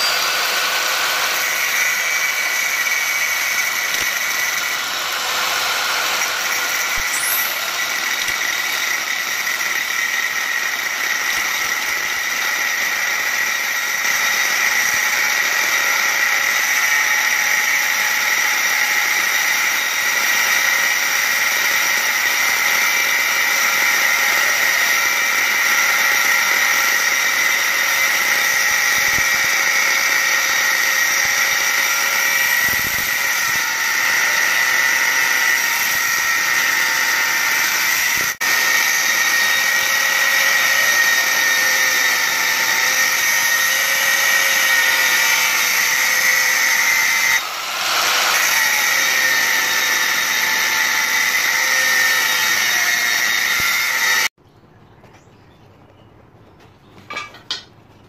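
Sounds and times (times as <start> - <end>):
angle grinder cutting steel: 0.0 - 54.4.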